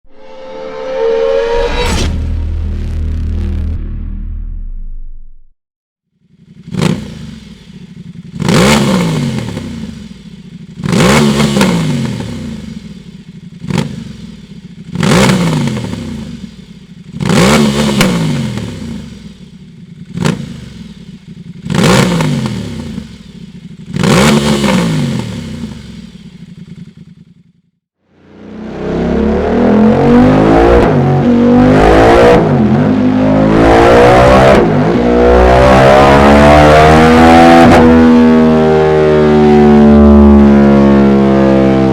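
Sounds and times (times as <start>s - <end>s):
motorcycle engine revving: 6.2s - 41.9s.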